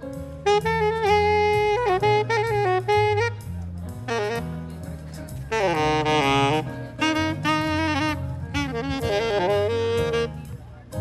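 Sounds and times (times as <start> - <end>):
jazz saxophone melody: 0.0 - 11.0
low backing accompaniment: 0.0 - 11.0.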